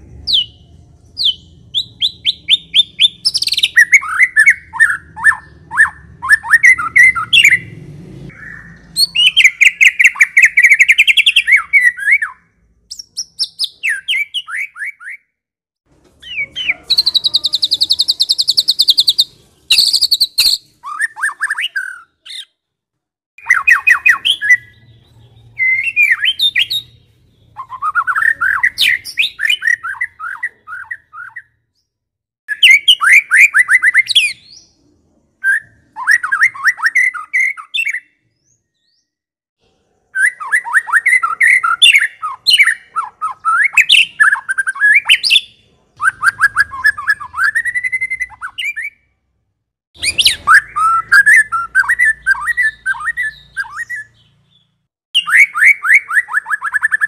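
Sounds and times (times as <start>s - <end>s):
bird singing: 0.0s - 7.7s, 8.3s - 15.4s, 16.2s - 22.6s, 23.4s - 31.9s, 32.5s - 39.2s, 40.0s - 49.1s, 50.0s - 57.0s.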